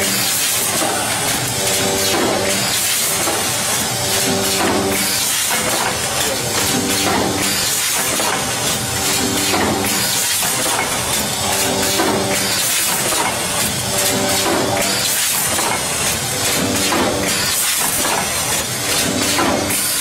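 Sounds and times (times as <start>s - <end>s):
machine hiss: 0.0s - 20.0s
mechanical clatter: 0.0s - 20.0s.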